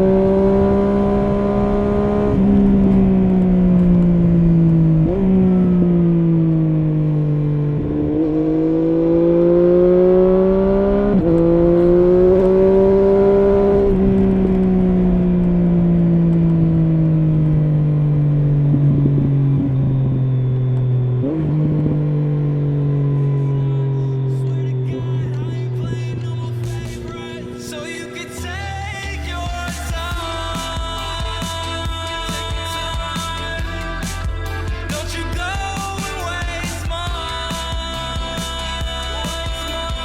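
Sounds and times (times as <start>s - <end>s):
motorcycle engine running: 0.0s - 27.8s, 29.2s - 40.0s.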